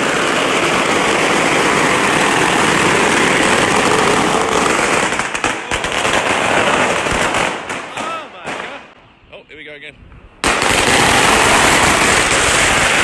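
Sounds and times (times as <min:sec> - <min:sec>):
firecracker bangs: 0:00.0 - 0:09.0, 0:10.4 - 0:13.0
firecrackers crackling: 0:00.0 - 0:09.1, 0:10.4 - 0:13.0.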